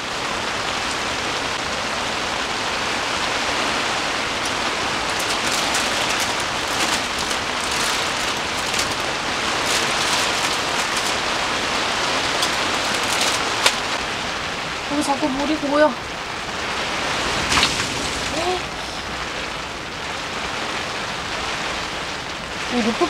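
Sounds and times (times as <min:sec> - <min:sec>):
heavy rain on tent fabric: 0:00.0 - 0:23.0.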